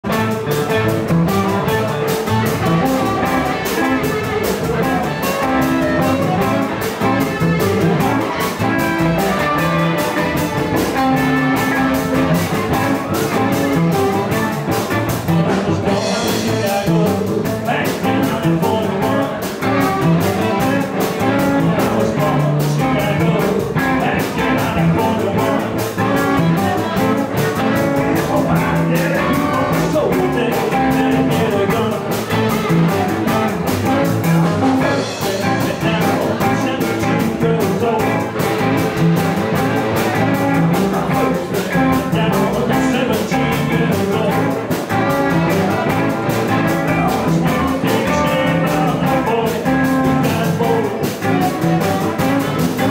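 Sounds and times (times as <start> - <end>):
drums keeping a steady beat: 0.0 - 52.9
electric guitar: 0.0 - 52.9
harmonica: 0.1 - 52.9.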